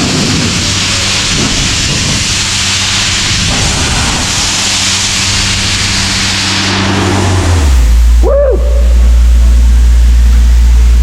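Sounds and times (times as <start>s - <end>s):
air blow gun hissing: 0.0s - 11.0s
air compressor engine drone: 0.0s - 11.0s.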